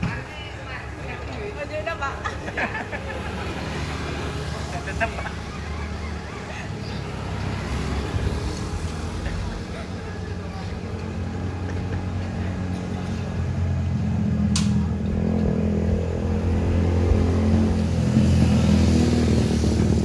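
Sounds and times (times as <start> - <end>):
vehicle engine revving: 2.8 - 20.0.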